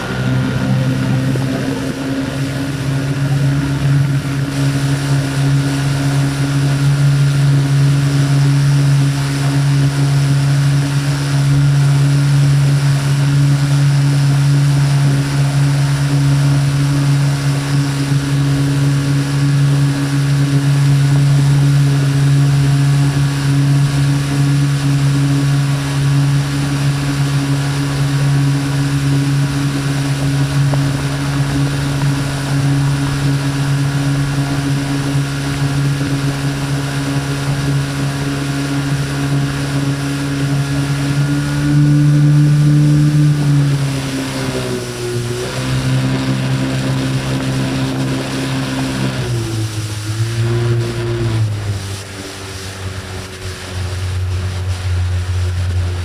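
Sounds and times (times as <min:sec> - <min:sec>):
outboard motor running: 0:00.0 - 0:56.0
wind and water rushing past hull: 0:00.0 - 0:56.0.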